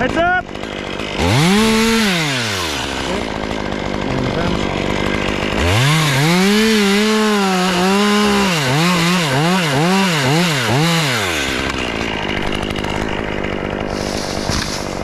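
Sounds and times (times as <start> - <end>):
chainsaw running under load: 0.0 - 15.0.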